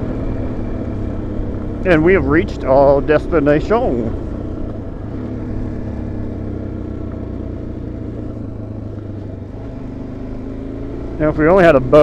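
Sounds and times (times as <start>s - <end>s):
muffled motorcycle engine idling: 0.0s - 12.0s.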